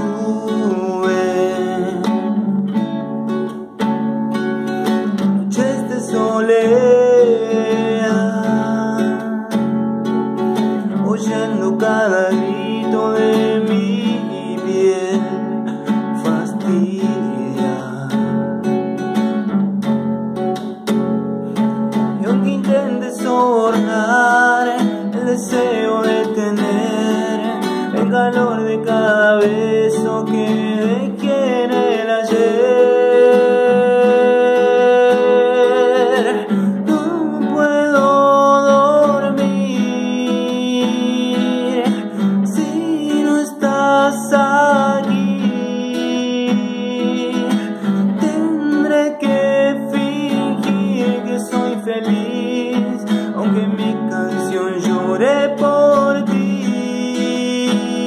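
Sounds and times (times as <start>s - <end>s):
man singing: 0.0s - 3.8s, 4.7s - 19.3s, 21.6s - 58.0s
classical guitar chords: 0.0s - 58.0s.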